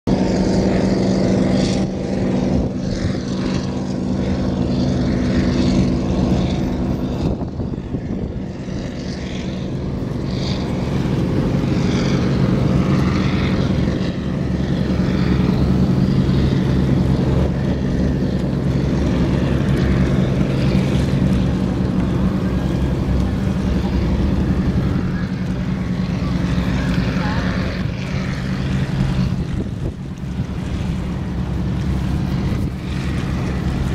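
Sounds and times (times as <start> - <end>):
motorboat engine droning: 0.0 - 33.9
hiss of bow wave and wake: 0.1 - 33.9.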